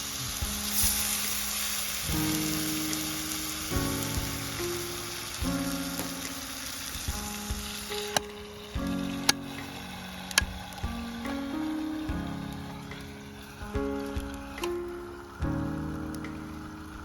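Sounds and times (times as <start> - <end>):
background music with held chords: 0.0 - 17.0
fire crackling and popping: 0.0 - 17.0
food sizzling on campfire grill: 0.0 - 17.0.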